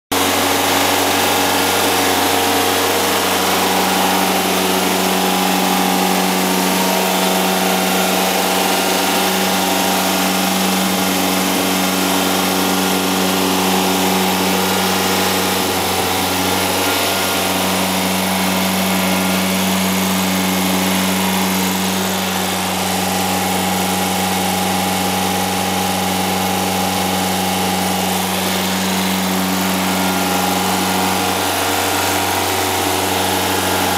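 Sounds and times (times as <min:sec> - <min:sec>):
air-cooled engine running: 0:00.1 - 0:33.9.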